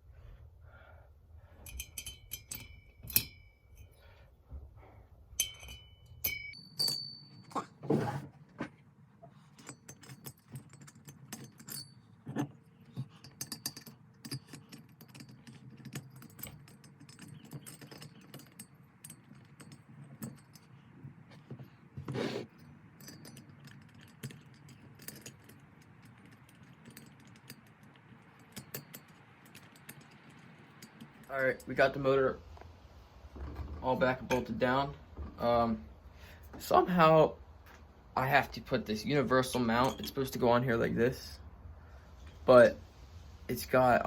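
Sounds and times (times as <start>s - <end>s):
metal tools clinking: 1.6s - 4.2s, 5.3s - 8.3s, 9.3s - 36.7s, 38.6s - 41.5s.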